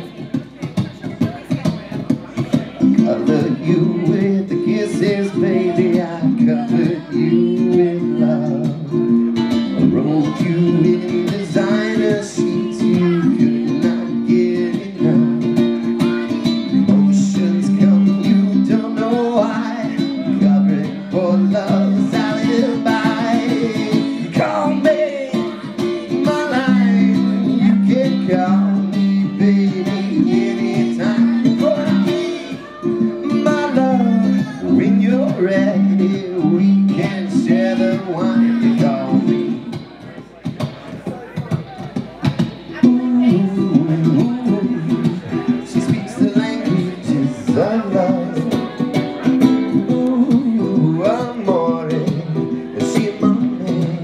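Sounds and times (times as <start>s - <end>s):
strummed acoustic string instrument: 0.0s - 54.0s
man singing: 2.4s - 39.8s, 42.7s - 54.0s.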